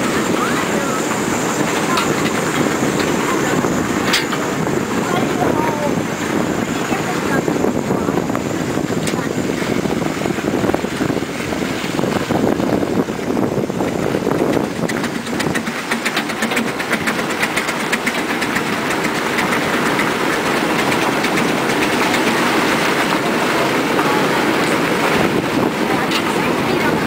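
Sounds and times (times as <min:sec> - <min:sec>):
steam locomotive mechanical clatter: 0:00.0 - 0:27.0.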